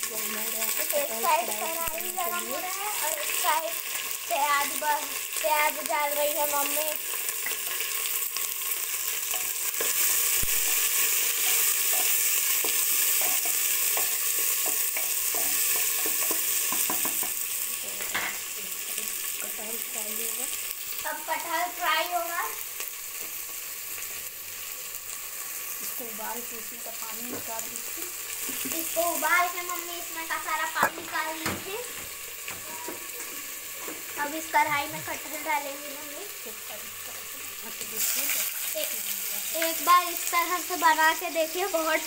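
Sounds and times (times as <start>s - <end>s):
onions sizzling in oil: 0.0s - 42.0s.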